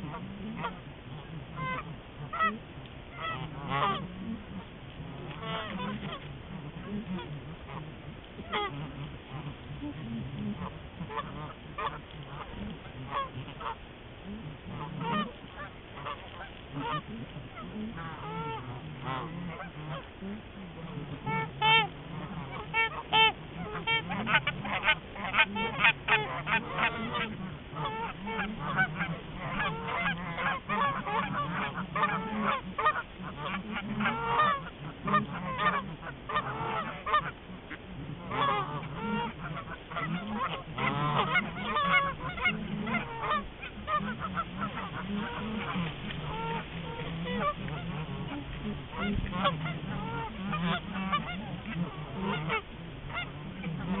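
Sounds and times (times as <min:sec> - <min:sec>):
flock of geese honking: 0:00.0 - 0:54.0.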